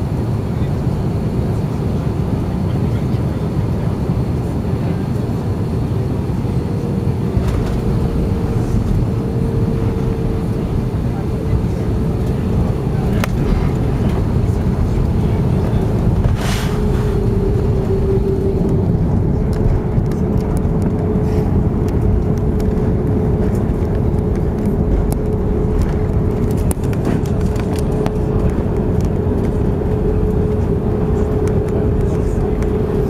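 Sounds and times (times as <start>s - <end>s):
airplane cabin rumble: 0.0s - 33.0s
steady hum: 0.0s - 33.0s.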